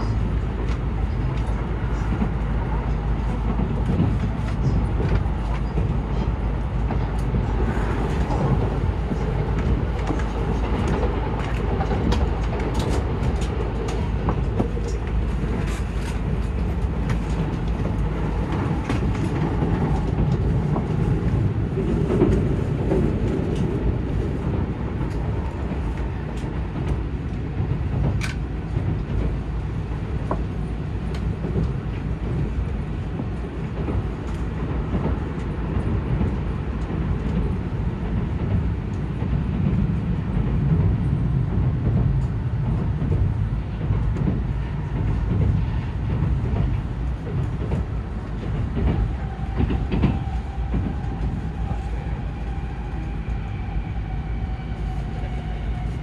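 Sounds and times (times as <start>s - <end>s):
train rumble on rails: 0.0s - 56.0s.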